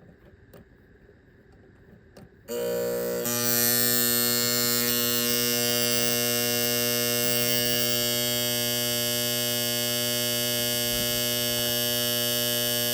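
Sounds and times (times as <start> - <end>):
alarm clock buzzer: 2.5 - 12.9.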